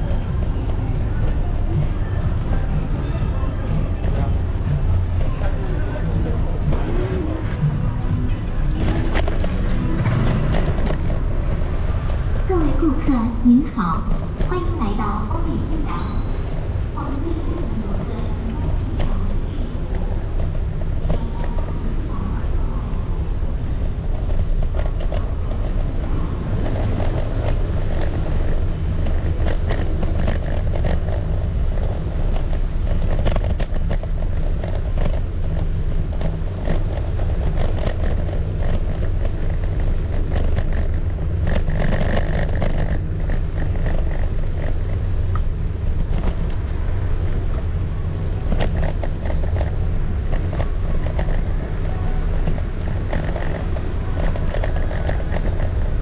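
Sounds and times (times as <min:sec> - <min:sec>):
rattles and clicks over joints: 0:00.0 - 0:12.9, 0:13.9 - 0:56.0
scooter wheels rumbling on bricks: 0:00.0 - 0:56.0.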